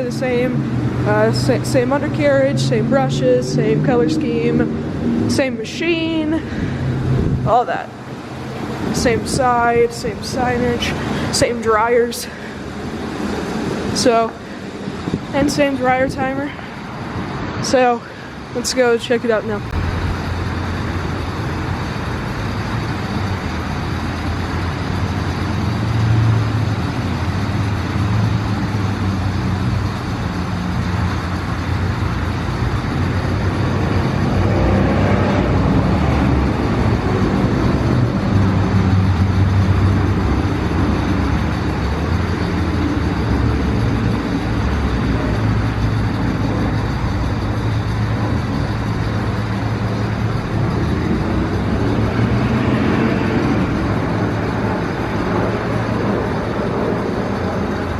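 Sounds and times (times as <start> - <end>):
motors and pumps humming: 0.0 - 57.9
rushing noise: 0.0 - 57.9.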